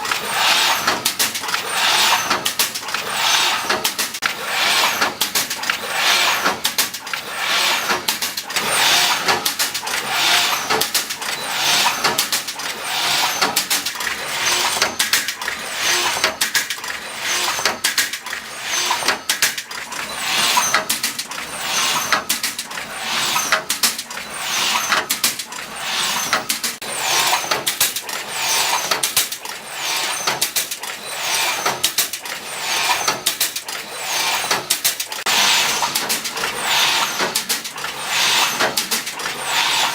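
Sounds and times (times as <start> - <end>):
sharp clicks and knocks: 0.0 - 39.9.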